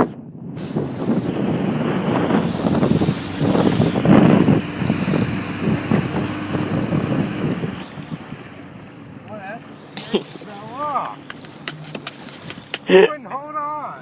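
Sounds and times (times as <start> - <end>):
wind buffeting microphone: 0.0 - 13.0
water under boat: 0.0 - 14.0
motorboat engine: 0.3 - 14.0.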